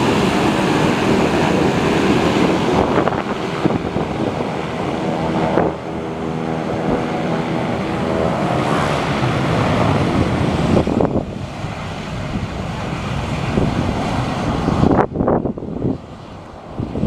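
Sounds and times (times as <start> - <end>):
turboprop engines running: 0.0 - 17.0
wind noise on microphone: 0.0 - 17.0.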